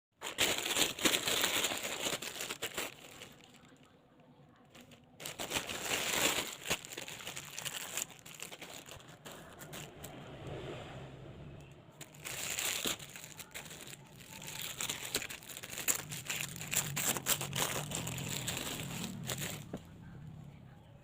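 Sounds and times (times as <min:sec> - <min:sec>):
plastic packaging crinkling: 0:00.2 - 0:03.9, 0:04.7 - 0:09.9, 0:12.0 - 0:19.9.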